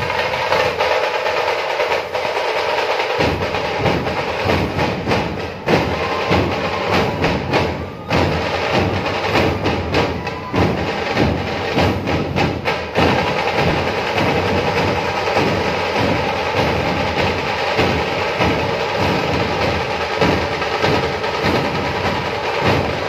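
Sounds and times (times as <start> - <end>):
drums beating a rhythm: 0.0 - 23.0
noisy crowd: 0.0 - 23.0.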